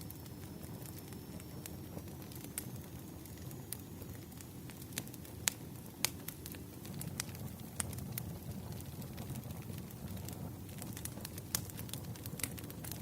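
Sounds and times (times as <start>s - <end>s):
fire rumbling: 0.0s - 13.0s
firewood crackling and popping: 0.0s - 13.0s.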